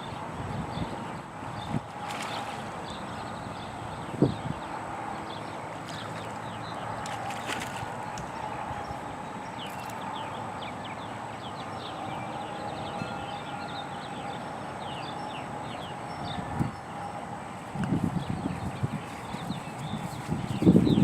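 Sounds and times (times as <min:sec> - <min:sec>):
birds chirping: 0:00.0 - 0:17.2, 0:17.8 - 0:21.0.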